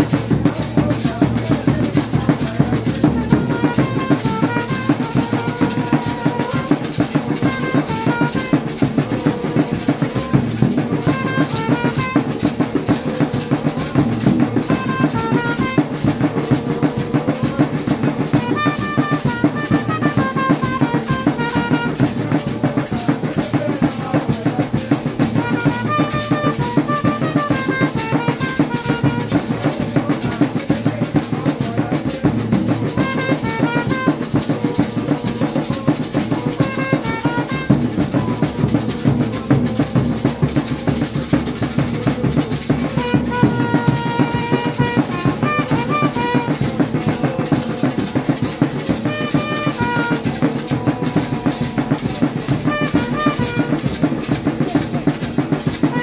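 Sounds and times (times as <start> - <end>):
large drums beating: 0.0 - 56.0
trumpet phrases: 0.0 - 56.0.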